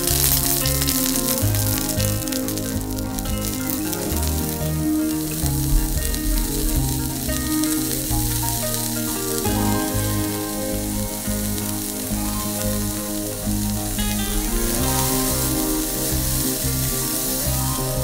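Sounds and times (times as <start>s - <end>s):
soft background tune: 0.0s - 18.0s
vegetables sizzling in a pan: 0.0s - 18.0s.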